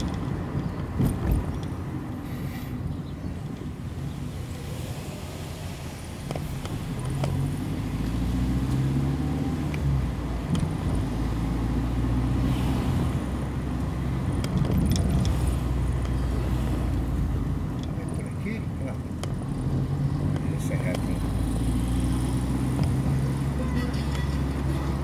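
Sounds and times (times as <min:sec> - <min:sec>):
car engine: 0:00.0 - 0:25.0
road noise: 0:00.0 - 0:25.0.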